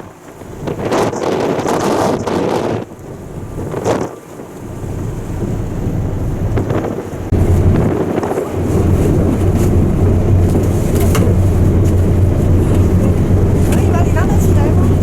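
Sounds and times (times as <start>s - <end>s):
ship engine rumble: 0.0s - 15.0s
wind buffeting the microphone: 0.0s - 15.0s.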